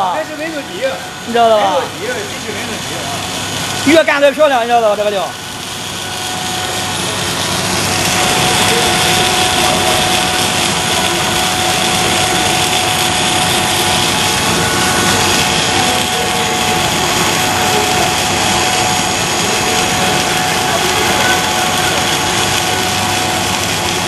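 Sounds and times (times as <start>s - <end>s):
production machinery whirring: 0.0s - 24.0s.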